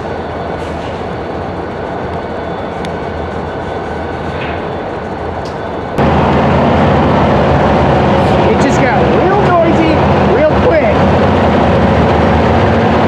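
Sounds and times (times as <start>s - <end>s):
diesel locomotive engine droning: 0.0s - 13.0s.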